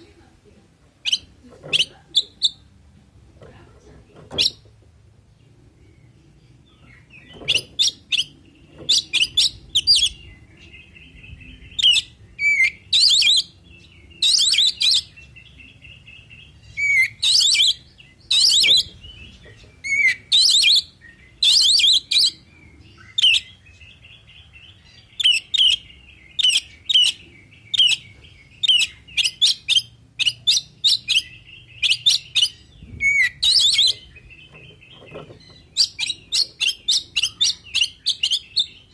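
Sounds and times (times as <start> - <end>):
bird whistled song: 1.0 - 2.6, 6.8 - 23.9, 25.1 - 38.9
soft bird twittering: 1.0 - 2.8, 5.4 - 38.9.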